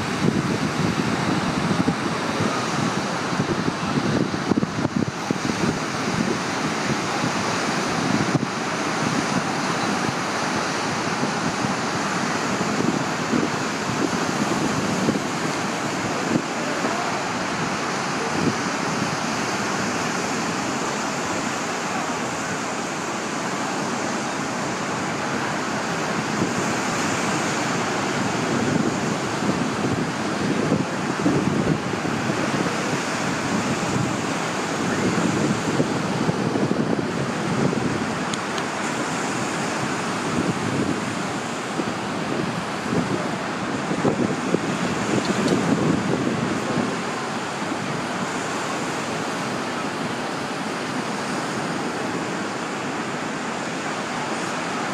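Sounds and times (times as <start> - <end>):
wind buffeting microphone: 0.0 - 53.1
lake surf breaking on shore: 0.0 - 54.9.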